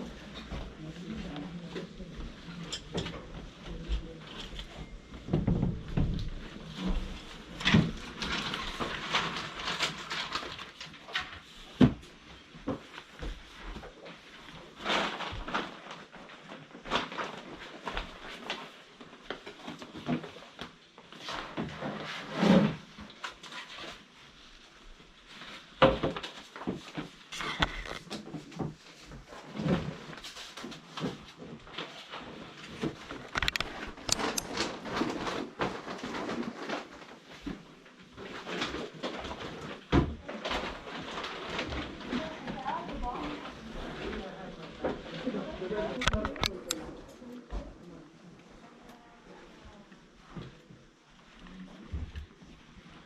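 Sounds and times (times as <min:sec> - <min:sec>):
rustling: 0:00.0 - 0:53.0.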